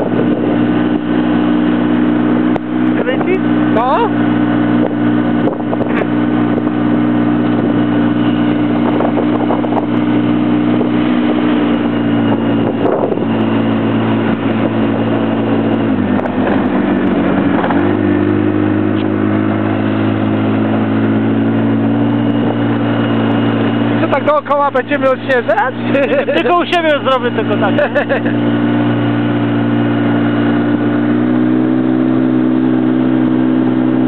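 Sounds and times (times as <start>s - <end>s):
quad engine running: 0.0s - 34.0s.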